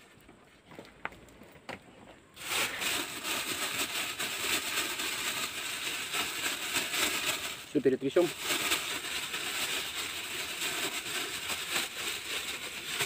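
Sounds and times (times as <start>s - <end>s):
plastic bag rustling: 2.4s - 13.0s.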